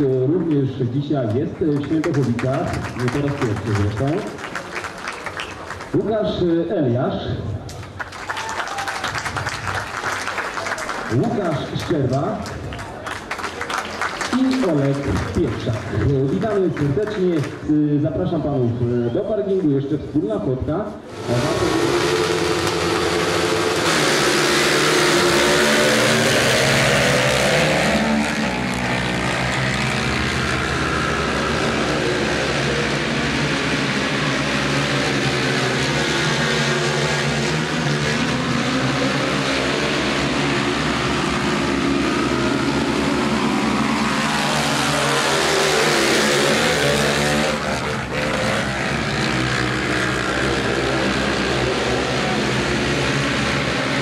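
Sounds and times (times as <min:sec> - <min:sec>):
quad bike engines revving: 0:00.0 - 0:04.6, 0:10.9 - 0:12.8, 0:14.3 - 0:54.0.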